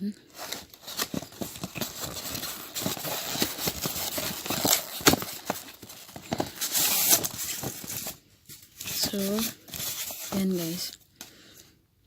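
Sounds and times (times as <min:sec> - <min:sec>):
packaging rustle: 0:00.3 - 0:11.0.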